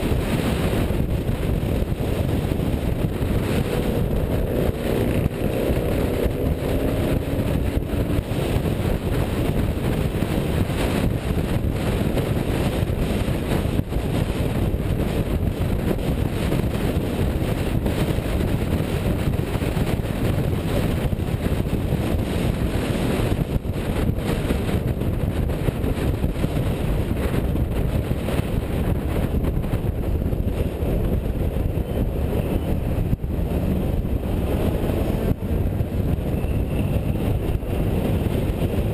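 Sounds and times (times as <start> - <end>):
car engine running: 0.0 - 38.9
road rumble: 0.0 - 38.9
wind on microphone: 0.0 - 38.9.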